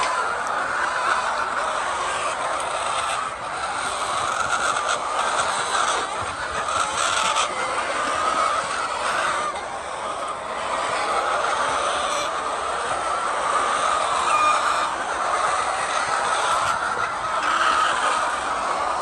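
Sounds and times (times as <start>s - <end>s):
hens clucking: 0.0s - 19.0s.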